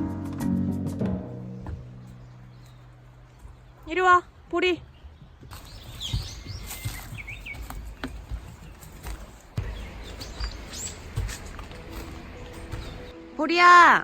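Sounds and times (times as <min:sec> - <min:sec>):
small birds chirping: 0:01.4 - 0:13.3.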